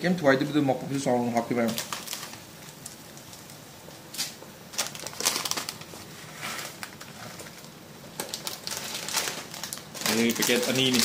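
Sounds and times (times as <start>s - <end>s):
noodles boiling in a pan: 0.0s - 11.0s
plastic packet crinkling: 1.4s - 11.0s.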